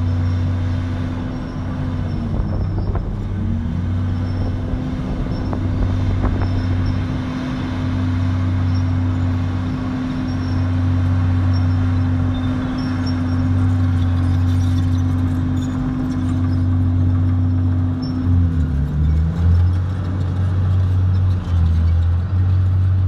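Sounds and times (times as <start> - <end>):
bulldozer diesel engine droning: 0.0 - 23.0
dump truck engine: 0.0 - 23.0.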